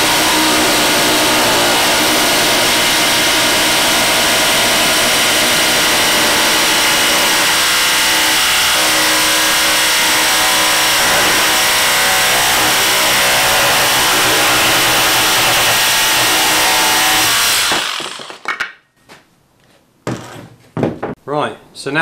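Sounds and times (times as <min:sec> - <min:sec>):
jigsaw cutting plywood: 0:00.0 - 0:18.5.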